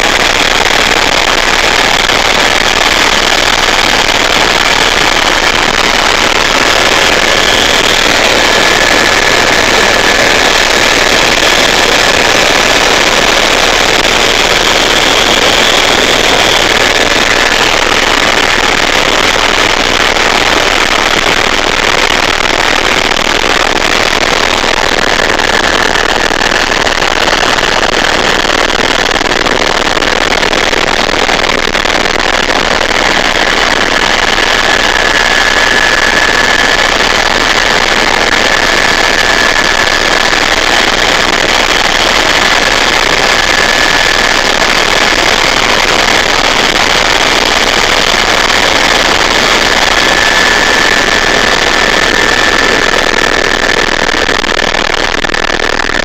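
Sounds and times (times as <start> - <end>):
helicopter engine and rotor: 0.0 - 55.4
high-pitched whine: 0.0 - 56.0.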